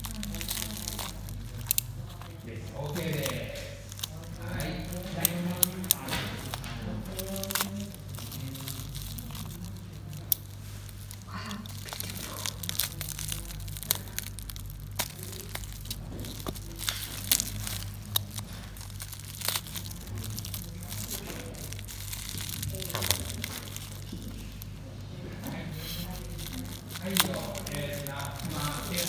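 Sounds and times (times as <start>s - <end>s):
knife cutting bubble wrap: 0.0s - 24.7s, 25.4s - 29.0s
bubble wrap crinkling: 0.0s - 29.0s
bubble wrap snaps: 0.0s - 29.0s.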